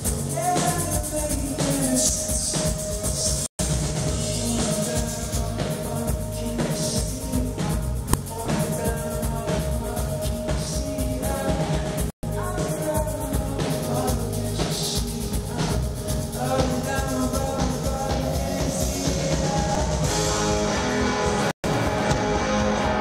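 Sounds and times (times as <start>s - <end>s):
rock band playing live: 0.0s - 23.0s
person singing: 0.1s - 3.5s, 4.1s - 20.3s.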